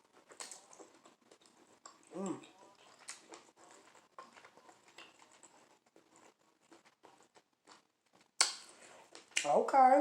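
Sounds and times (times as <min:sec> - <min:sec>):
person chewing food: 0:00.0 - 0:09.5.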